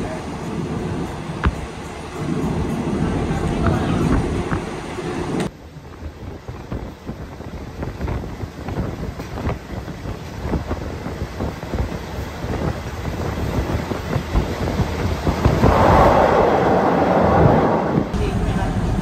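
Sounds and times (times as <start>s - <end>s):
wind buffeting a microphone: 0.0s - 18.2s
train rumbling on the track: 0.0s - 19.0s.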